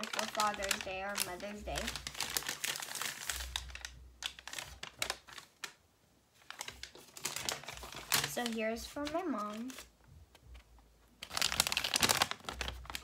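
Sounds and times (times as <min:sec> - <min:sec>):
paper rustling and crinkling: 0:00.0 - 0:05.8, 0:06.4 - 0:13.0.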